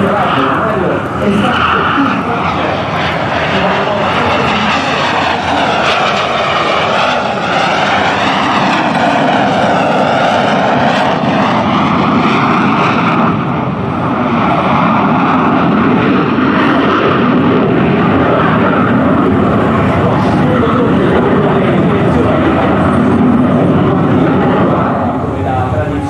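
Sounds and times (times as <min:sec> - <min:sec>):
jet engine passing: 0:00.0 - 0:26.0.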